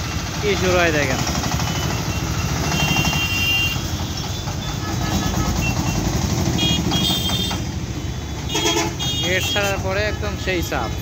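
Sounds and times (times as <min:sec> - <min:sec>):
road traffic engines: 0:00.0 - 0:11.0.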